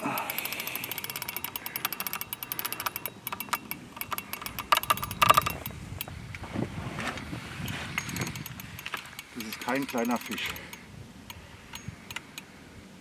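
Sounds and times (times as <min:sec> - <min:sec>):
fishing reel ratcheting: 0:00.0 - 0:05.8, 0:07.8 - 0:12.5.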